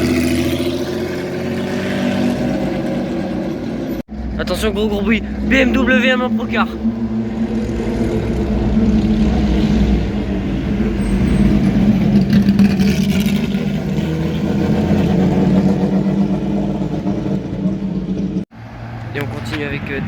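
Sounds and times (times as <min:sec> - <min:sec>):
racing engine running: 0:00.0 - 0:20.0.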